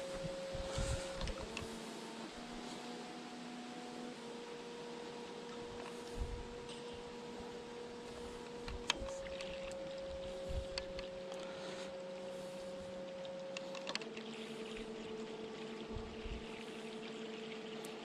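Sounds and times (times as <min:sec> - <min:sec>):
motor clicks: 0:00.0 - 0:04.2, 0:05.0 - 0:18.0
electric motor whine: 0:00.0 - 0:18.0.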